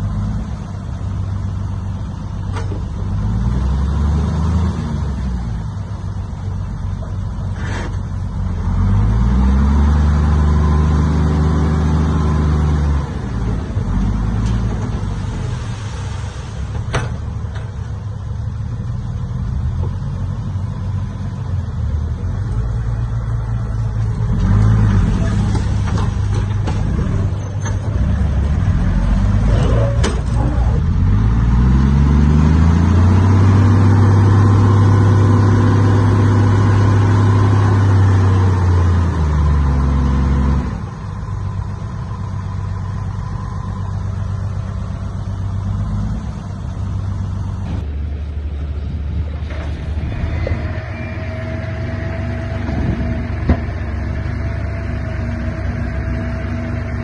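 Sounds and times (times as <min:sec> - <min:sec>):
heavy machine diesel engine revving: 0:00.0 - 0:57.0.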